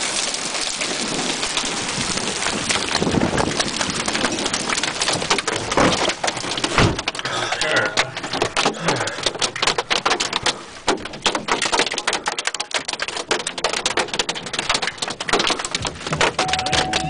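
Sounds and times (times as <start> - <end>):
hailstones pelting down: 0.0 - 17.0.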